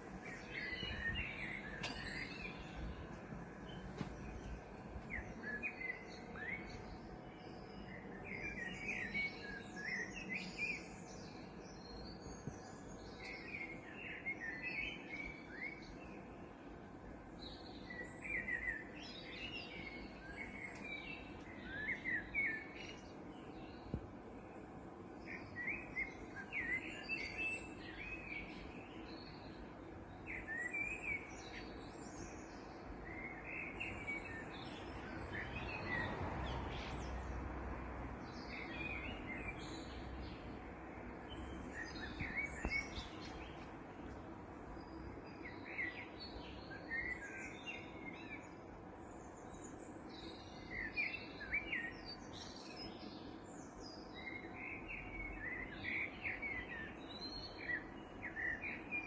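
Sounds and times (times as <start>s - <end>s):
low background noise: 0.0s - 59.0s
songbirds chirping: 0.0s - 59.0s.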